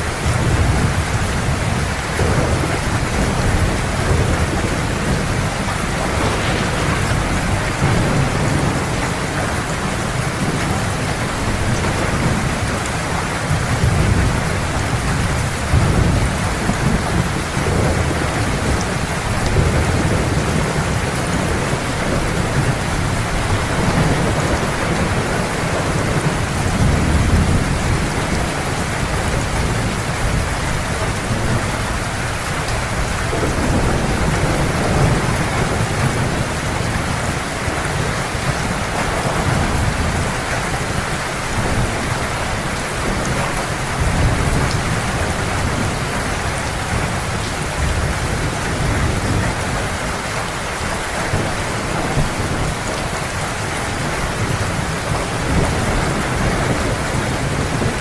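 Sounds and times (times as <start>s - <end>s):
heavy rain: 0.0s - 58.0s
thunder rumble: 0.2s - 50.2s.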